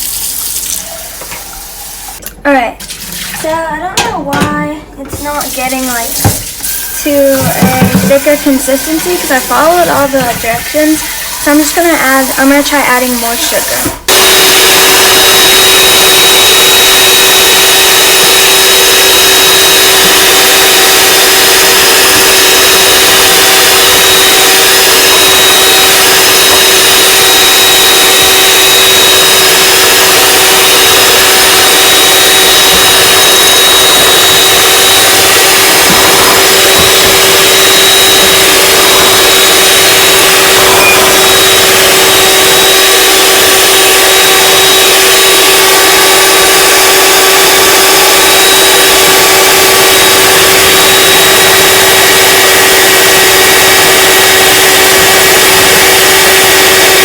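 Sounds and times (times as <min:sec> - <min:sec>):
electric mixer motor whine: 0:05.2 - 0:57.0.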